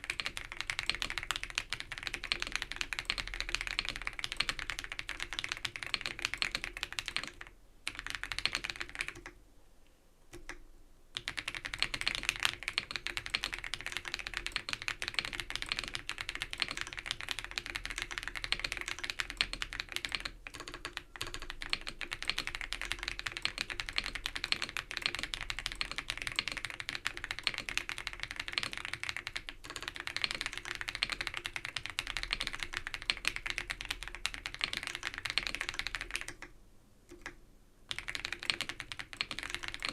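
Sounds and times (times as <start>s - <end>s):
mechanical keyboard typing: 0.0s - 9.4s, 10.3s - 10.6s, 11.2s - 36.5s, 37.1s - 39.9s.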